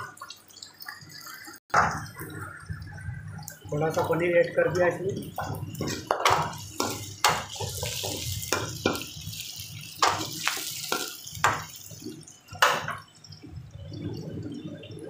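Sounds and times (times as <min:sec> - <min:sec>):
food sizzling in oil: 0:00.0 - 0:14.4.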